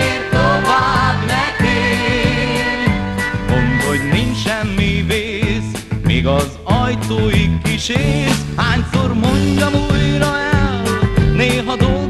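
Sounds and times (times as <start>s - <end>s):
bouncing bass line: 0.0s - 12.0s
pop band instrumental: 0.0s - 12.0s.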